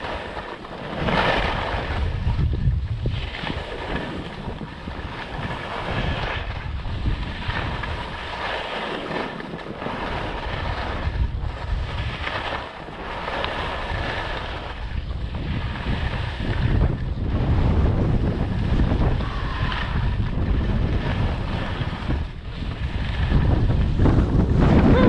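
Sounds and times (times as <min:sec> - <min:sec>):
skis scraping on snow: 0:00.0 - 0:25.0
wind buffeting microphone: 0:00.0 - 0:25.0.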